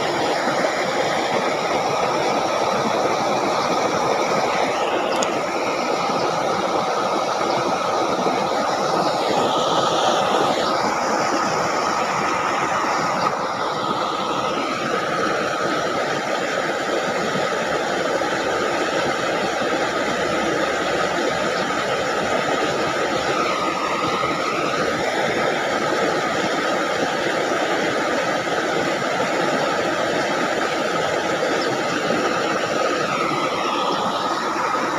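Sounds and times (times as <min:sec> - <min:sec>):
water rushing in a ditch: 0:00.0 - 0:34.9.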